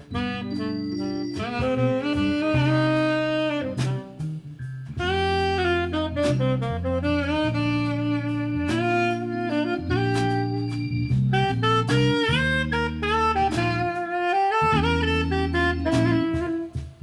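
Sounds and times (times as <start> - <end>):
military band playing jazz: 0.0 - 17.0.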